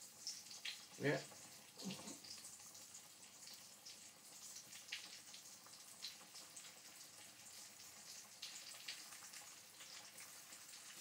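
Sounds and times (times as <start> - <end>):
chicken frying hiss: 0.0 - 11.0.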